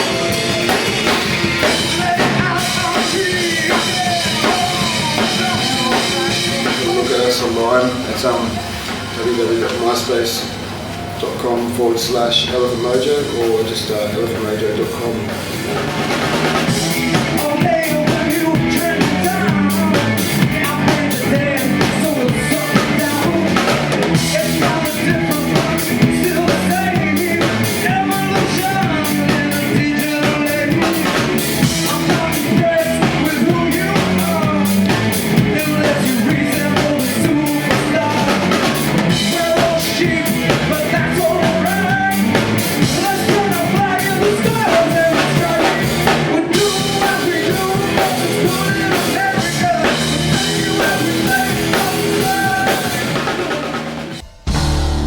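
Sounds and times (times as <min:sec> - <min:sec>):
person singing: 0:00.0 - 0:10.0, 0:16.6 - 0:53.9
drum kit beat: 0:00.0 - 0:55.0
rock band music: 0:00.0 - 0:55.0.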